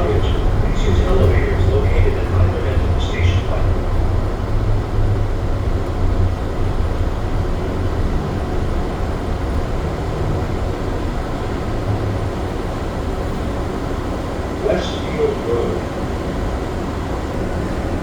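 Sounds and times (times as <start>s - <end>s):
people mover train rumbling: 0.0s - 18.0s.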